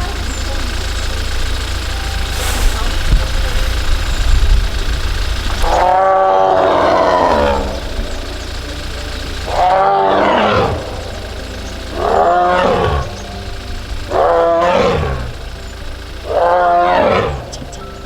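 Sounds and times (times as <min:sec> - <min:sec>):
tiger calling: 0:00.0 - 0:18.0.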